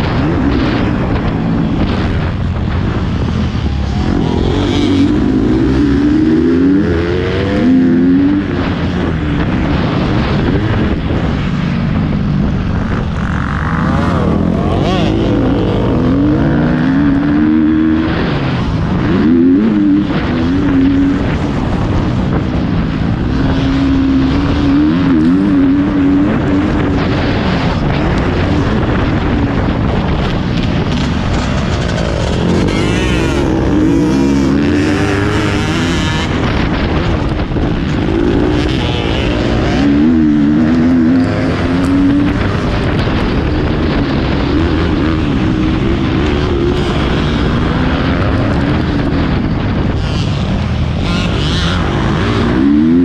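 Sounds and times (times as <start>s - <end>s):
wind rush: 0.0s - 53.0s
motocross bike engine revving: 2.8s - 11.4s, 12.8s - 22.2s, 22.8s - 53.0s.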